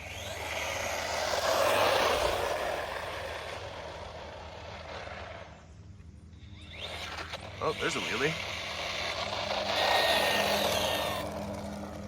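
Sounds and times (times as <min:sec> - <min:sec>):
rc car motor and tyre noise: 0:00.0 - 0:12.0.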